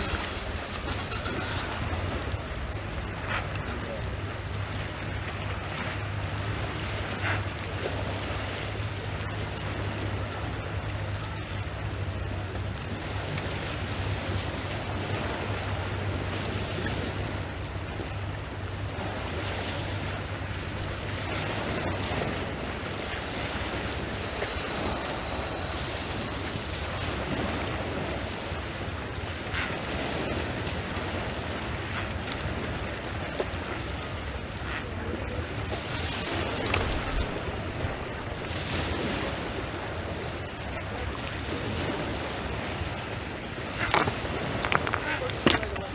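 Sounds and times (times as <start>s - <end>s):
small waves on pebbles and ice: 0.0s - 45.9s
wind rumbling on microphone: 0.0s - 45.9s.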